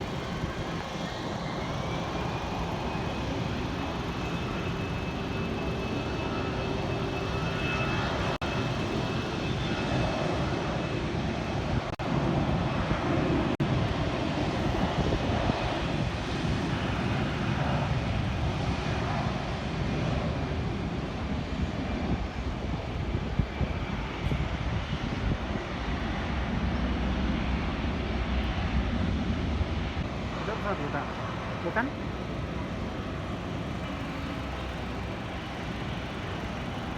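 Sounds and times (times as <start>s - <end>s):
airliner engines rushing: 0.0s - 36.9s
high engine whine: 0.0s - 36.9s.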